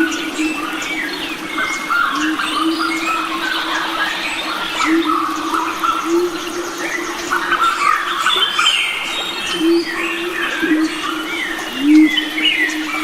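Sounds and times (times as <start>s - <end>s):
forest birds chirping: 0.0s - 13.0s.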